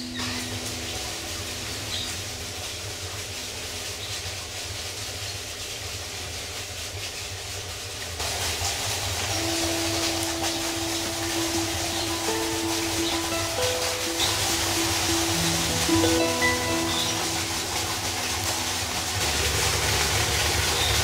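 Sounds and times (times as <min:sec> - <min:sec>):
held musical notes: 0:00.0 - 0:04.6, 0:08.2 - 0:21.0
steady rushing hiss: 0:00.0 - 0:21.0.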